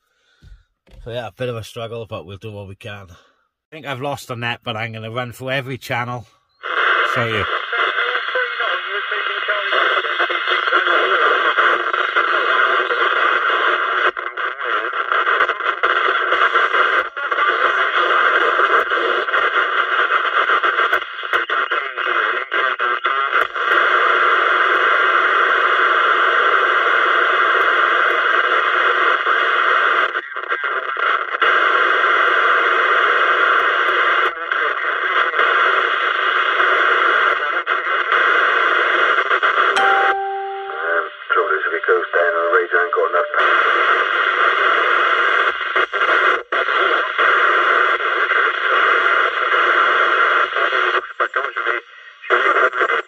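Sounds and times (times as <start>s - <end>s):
radio static and splatter: 3.8s - 39.5s, 41.3s - 53.0s.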